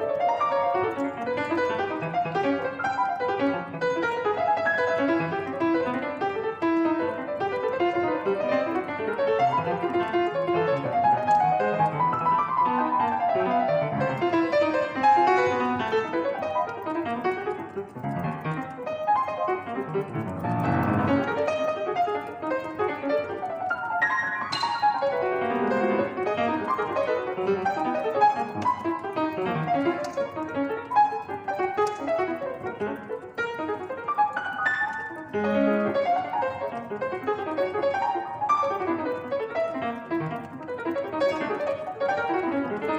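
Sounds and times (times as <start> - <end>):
solo piano playing: 0.0 - 42.9.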